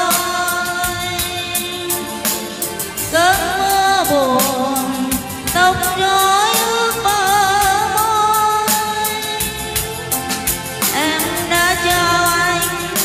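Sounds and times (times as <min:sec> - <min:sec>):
slow ballad backing track: 0:00.0 - 0:13.0
woman singing into microphone: 0:00.0 - 0:13.0.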